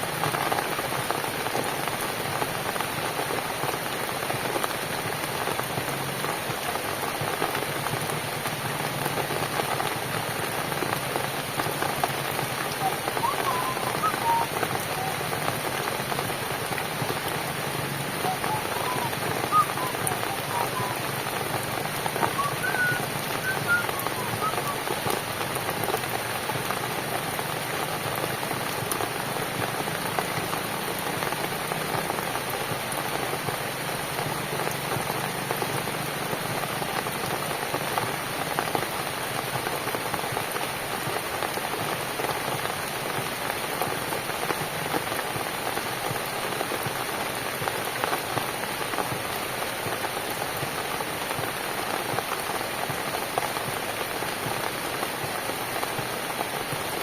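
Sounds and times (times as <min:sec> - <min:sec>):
steady rain on a cabin: 0:00.0 - 0:57.0.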